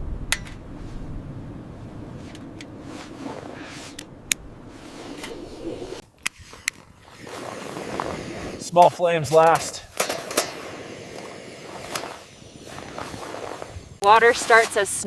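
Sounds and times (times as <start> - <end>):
wind noise: 0.0 - 8.7, 9.3 - 15.0.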